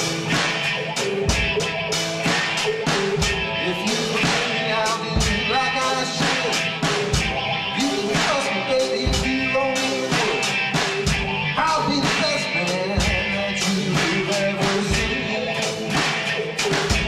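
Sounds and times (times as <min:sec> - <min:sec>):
drum kit beat with cymbals: 0:00.0 - 0:17.0
electric guitar: 0:00.0 - 0:17.0.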